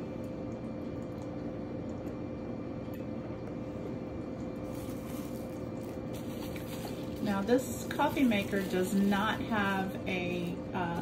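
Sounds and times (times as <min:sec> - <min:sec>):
coffee maker hissing and bubbling: 0:00.0 - 0:11.0
steady hum: 0:00.0 - 0:11.0.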